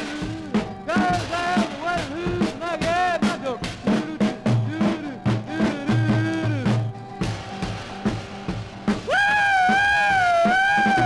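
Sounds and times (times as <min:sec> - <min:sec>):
pounding drum kit: 0:00.0 - 0:11.0
rock and roll song: 0:00.0 - 0:11.0.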